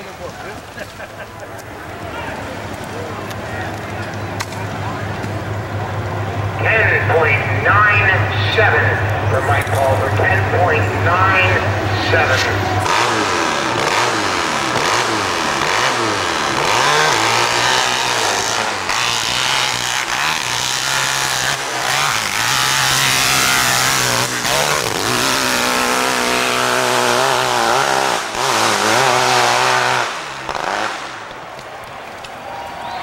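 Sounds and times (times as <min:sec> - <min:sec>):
motorcycle engine revving: 0:01.8 - 0:31.4.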